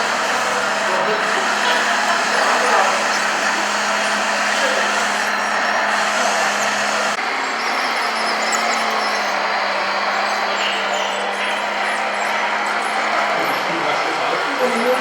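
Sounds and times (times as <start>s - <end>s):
small motors and gearboxes running: 0.0s - 15.0s.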